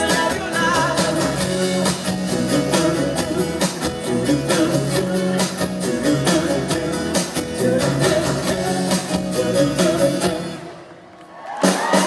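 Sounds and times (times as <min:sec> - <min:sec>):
live rock band playing: 0:00.0 - 0:10.7.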